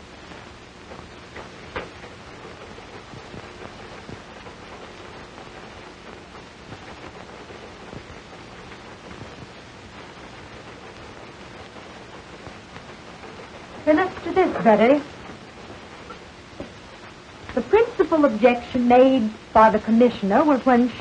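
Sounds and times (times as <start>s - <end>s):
crackles and pops: 0.0s - 21.0s
film soundtrack hiss: 0.0s - 21.0s.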